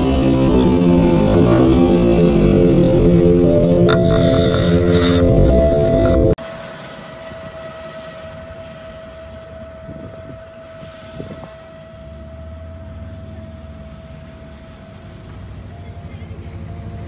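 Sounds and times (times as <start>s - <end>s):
motorcycle engine approaching: 0.0s - 17.0s.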